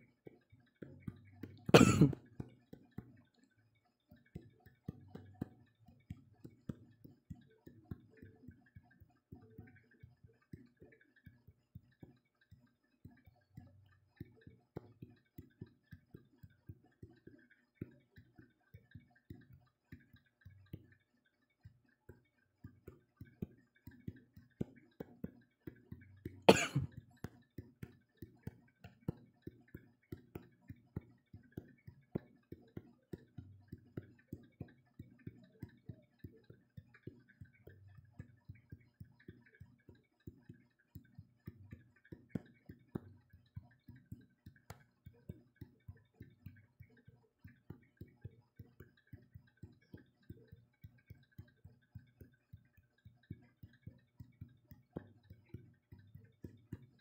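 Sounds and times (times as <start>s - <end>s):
fingertip taps on touchscreen: 4.2s - 17.2s, 22.1s - 57.0s.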